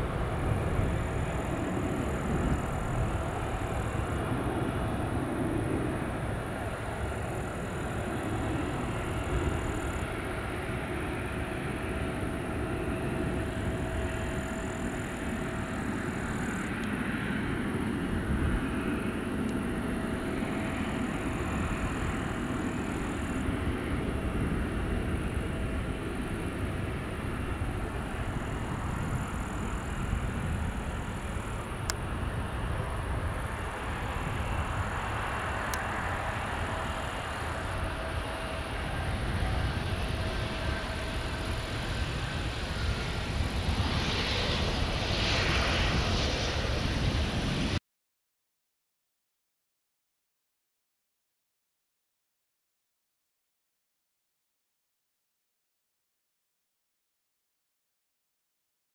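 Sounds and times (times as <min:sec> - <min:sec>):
jet engines idling: 0:00.0 - 0:47.7
high engine whine: 0:00.0 - 0:47.8.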